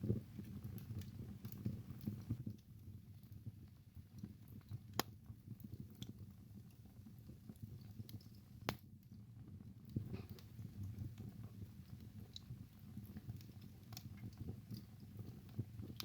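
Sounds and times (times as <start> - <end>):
fire crackles: 0.0 - 16.0
fire flames rumbling: 0.0 - 16.0.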